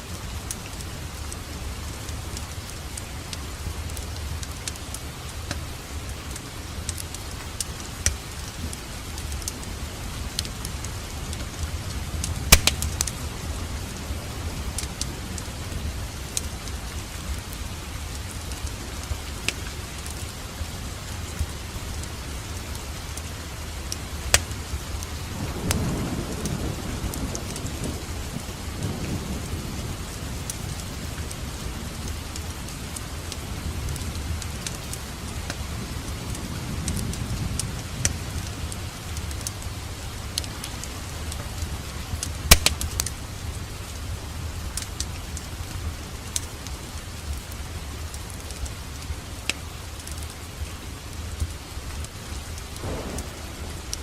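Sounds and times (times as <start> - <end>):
fire hissing and rumbling: 0.0 - 54.0
fire crackling and popping: 0.2 - 28.5, 29.4 - 54.0.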